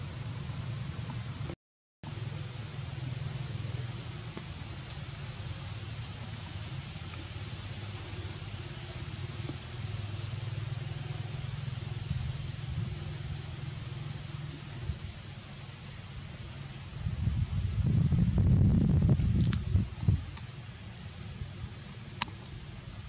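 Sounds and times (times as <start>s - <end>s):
thin high whine: 0.0s - 21.6s
even hiss: 0.0s - 23.0s.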